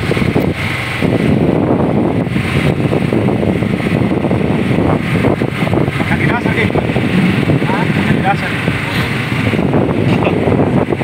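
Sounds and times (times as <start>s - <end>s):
boat engine running: 0.0s - 11.0s
wind buffeting microphone: 0.0s - 11.0s.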